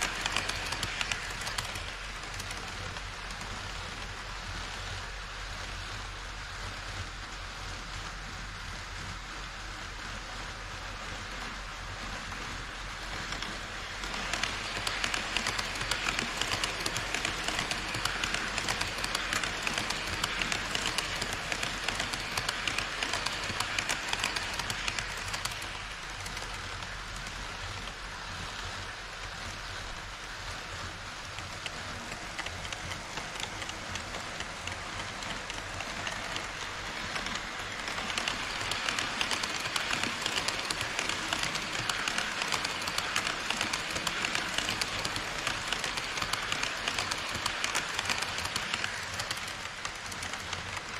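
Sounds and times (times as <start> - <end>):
model train wheels rushing on rail: 0.0 - 50.9.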